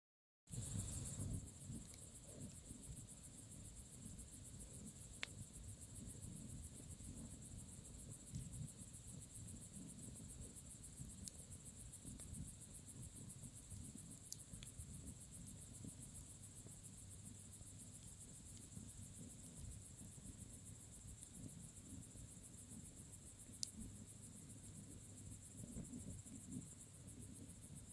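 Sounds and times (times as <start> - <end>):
bonfire low rumble: 0.5 - 27.9
crickets chirping: 0.5 - 27.9.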